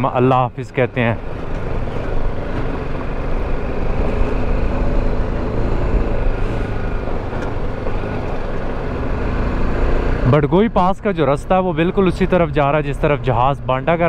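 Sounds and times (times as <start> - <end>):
wind and road rush: 0.0 - 14.0.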